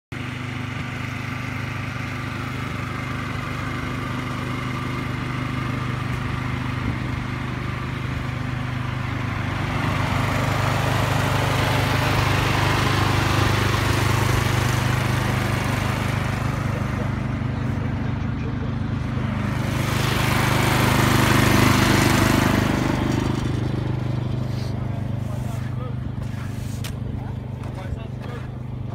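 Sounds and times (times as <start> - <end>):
engine idling: 0.1 - 28.9.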